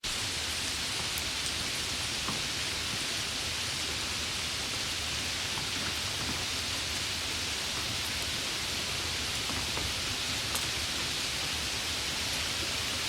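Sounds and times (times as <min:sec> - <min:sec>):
heavy rain hiss: 0:00.0 - 0:13.0
raindrops ticking: 0:00.6 - 0:12.8.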